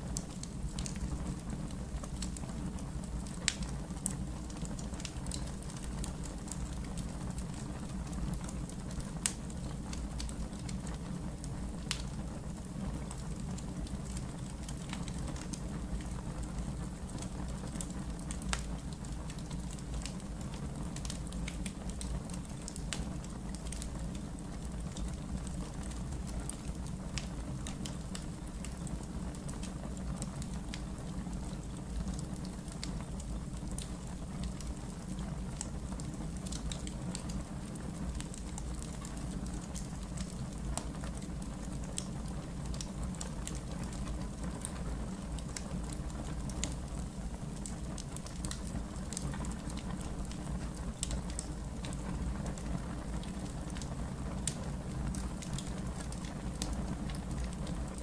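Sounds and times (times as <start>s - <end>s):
logs crackling and popping: 0.0s - 58.0s
fire flames rumbling: 0.1s - 58.0s.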